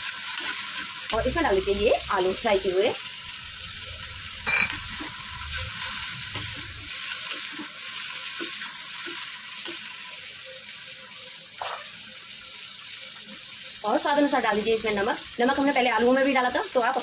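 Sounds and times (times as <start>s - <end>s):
vegetables sizzling in pan: 0.0s - 17.0s.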